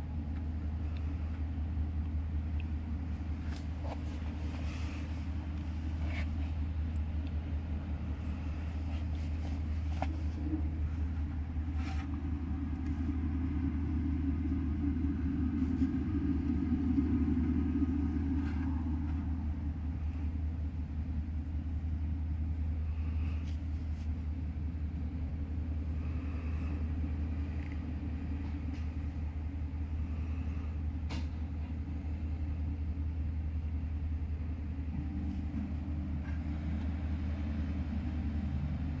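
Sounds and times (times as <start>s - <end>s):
low engine rumble: 0.0s - 39.0s.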